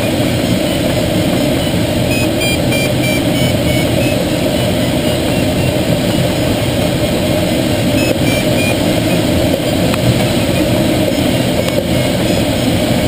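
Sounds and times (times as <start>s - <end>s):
air rushing around cockpit: 0.0s - 13.0s
tow plane engine drone: 0.0s - 13.0s.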